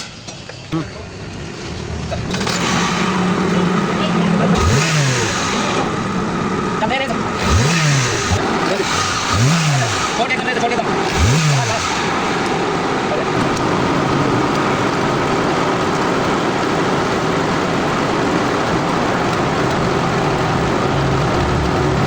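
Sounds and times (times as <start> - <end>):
car engine idling: 0.0 - 22.0
engine revving: 0.7 - 22.0.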